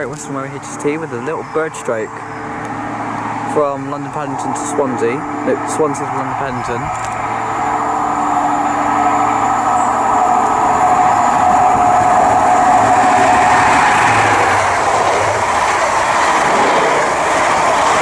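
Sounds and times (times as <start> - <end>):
train engine whine: 0.0 - 18.0
train wheels and coaches rushing: 0.0 - 18.0.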